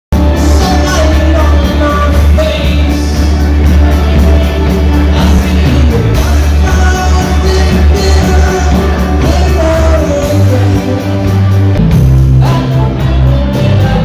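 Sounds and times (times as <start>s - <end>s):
live rock band playing: 0.1s - 14.0s.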